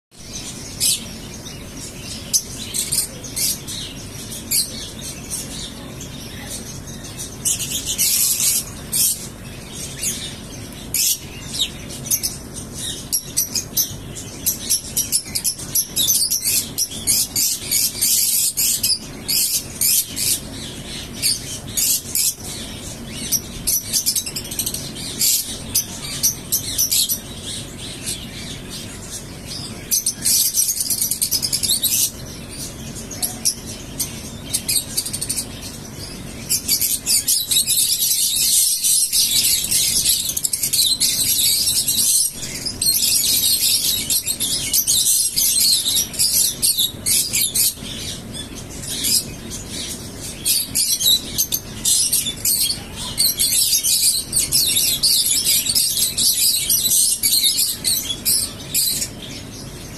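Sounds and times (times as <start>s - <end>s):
lovebirds chattering: 0.1s - 59.9s.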